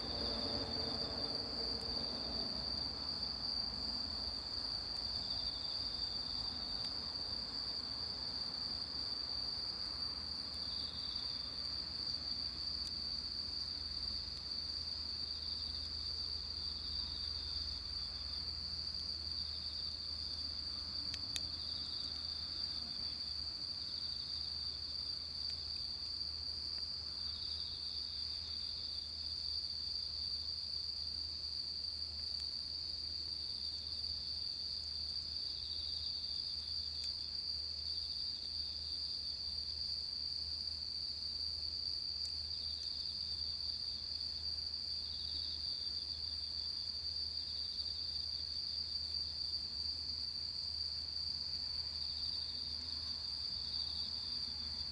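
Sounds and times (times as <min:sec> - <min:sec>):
high steady insect trill: 0:00.0 - 0:54.9
lower pulsing insect trill: 0:00.0 - 0:54.9.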